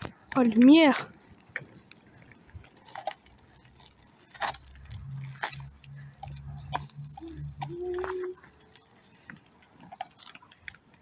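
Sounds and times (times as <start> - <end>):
scooter rolling on asphalt: 0.0 - 11.0.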